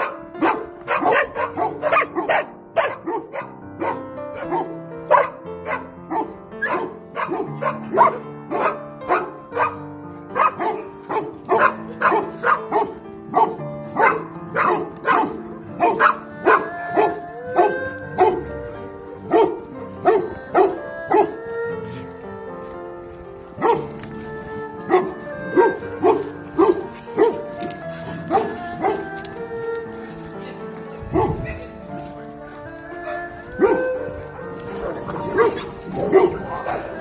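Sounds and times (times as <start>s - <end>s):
dogs barking: 0.0s - 22.2s, 23.4s - 30.2s, 31.0s - 37.0s
background music of held notes: 0.0s - 37.0s.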